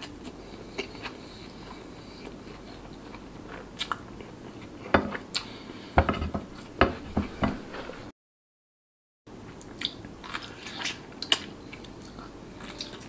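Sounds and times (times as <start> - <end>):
man chewing food: 0.0 - 8.1, 9.4 - 13.0.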